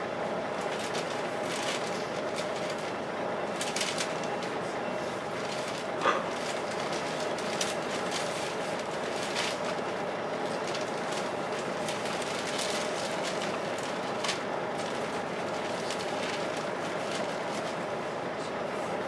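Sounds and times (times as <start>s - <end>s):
bus engine idling: 0.0s - 19.0s
engine cooling fan rushing: 0.0s - 19.0s.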